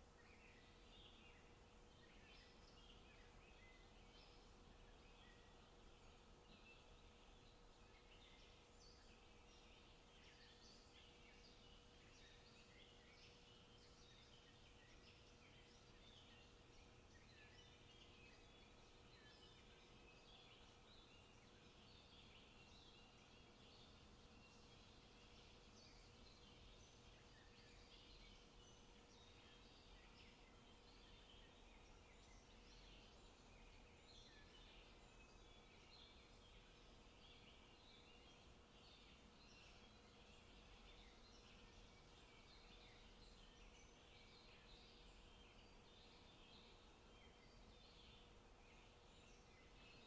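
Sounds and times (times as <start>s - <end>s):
faint steady hum: 0.0s - 50.0s
songbirds chirping: 0.0s - 50.0s.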